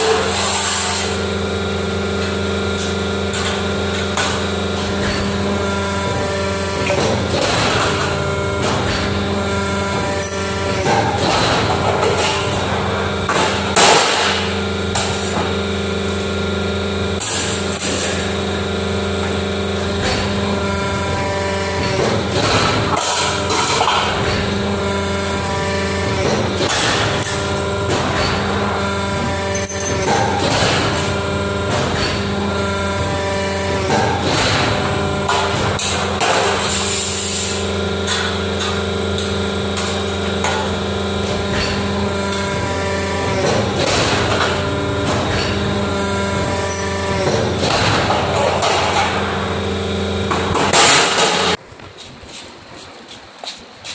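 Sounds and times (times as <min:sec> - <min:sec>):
pump motor humming: 0:00.0 - 0:53.9.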